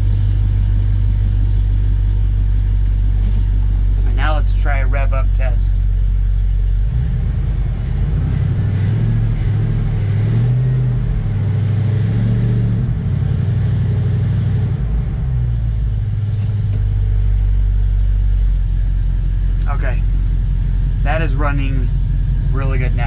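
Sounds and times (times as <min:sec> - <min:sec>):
pickup engine revving and running: 0:00.0 - 0:23.0.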